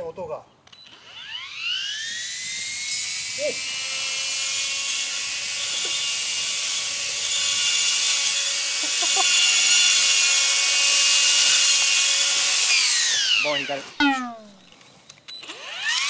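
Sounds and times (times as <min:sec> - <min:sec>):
electric grass trimmer whining: 0:00.7 - 0:16.0.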